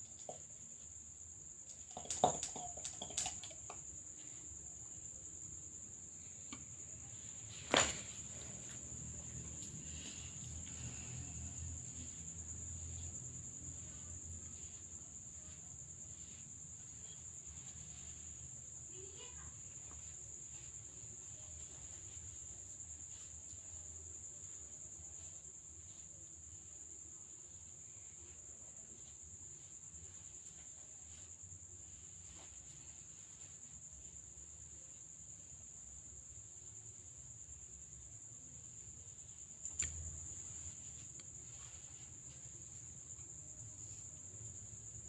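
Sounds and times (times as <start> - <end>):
cricket trilling: 0.0 - 45.0.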